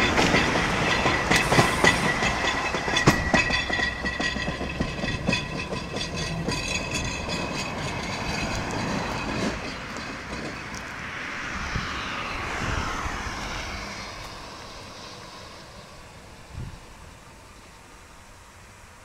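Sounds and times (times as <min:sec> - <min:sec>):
train wheels clicking over rails: 0:00.0 - 0:17.8
electric train whine: 0:00.0 - 0:19.0.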